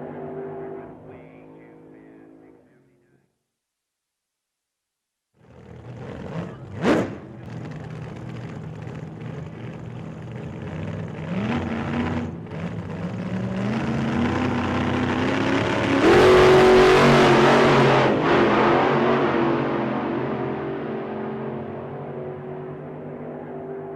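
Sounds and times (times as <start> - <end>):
racing car engines accelerating: 0.0 - 2.7, 5.4 - 23.9.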